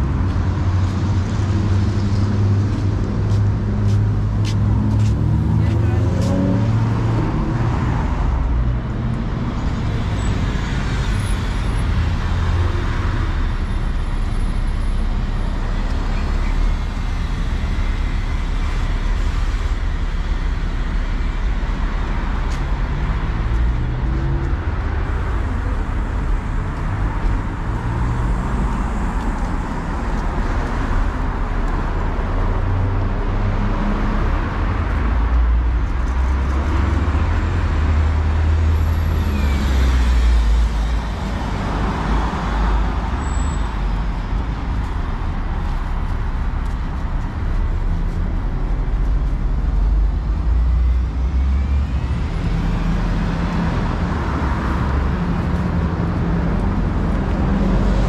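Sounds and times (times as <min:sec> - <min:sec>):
city bus passing: 0:00.0 - 0:58.0
passing cars: 0:00.0 - 0:58.0.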